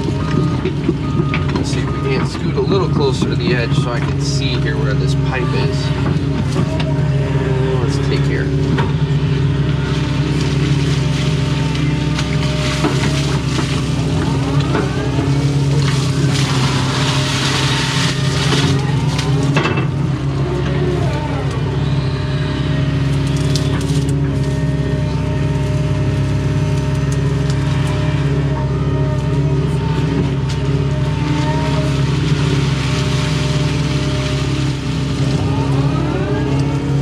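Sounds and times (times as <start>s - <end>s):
excavator diesel engine running: 0.0s - 37.0s
hydraulic whine: 0.0s - 37.0s.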